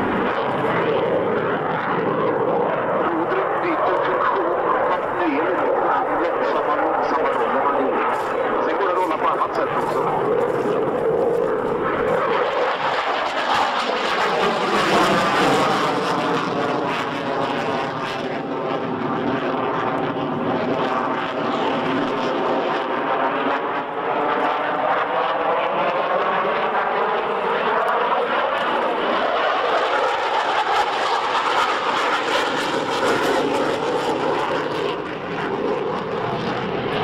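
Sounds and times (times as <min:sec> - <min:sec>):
jet engine roar: 0:00.0 - 0:37.0.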